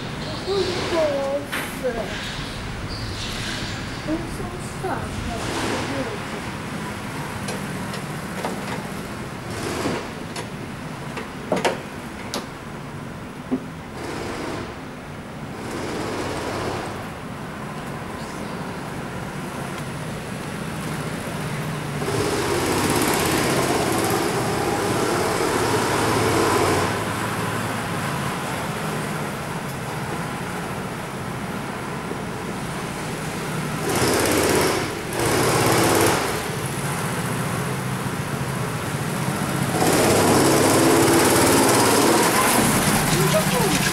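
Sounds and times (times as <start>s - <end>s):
go-kart engines buzzing: 0.0s - 10.6s, 13.8s - 43.9s.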